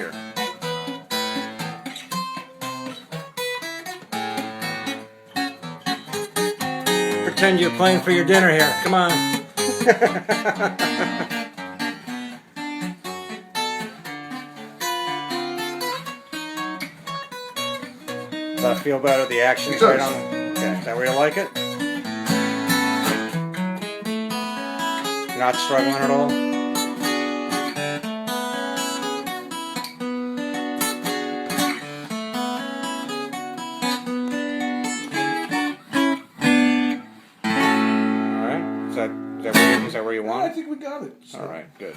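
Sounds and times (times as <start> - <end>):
acoustic guitar strummed and picked: 0.0 - 41.9.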